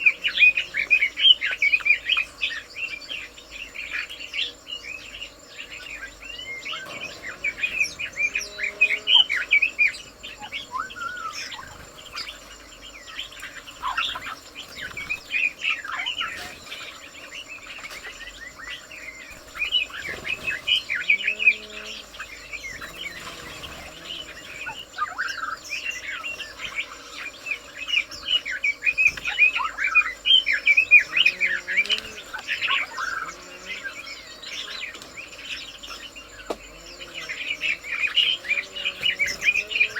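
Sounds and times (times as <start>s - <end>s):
birds chirping: 0.0s - 39.9s
insect buzz: 0.0s - 39.9s.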